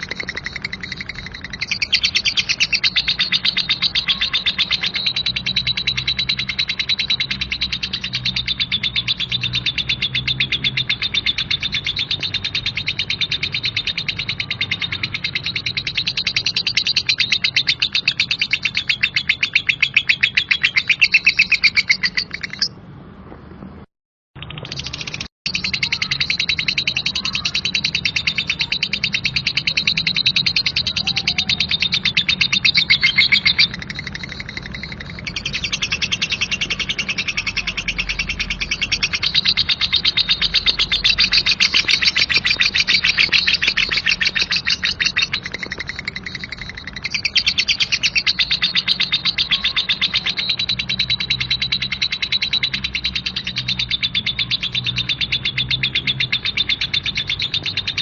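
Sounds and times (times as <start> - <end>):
lovebird chattering: 0.0 - 22.8, 24.4 - 58.0.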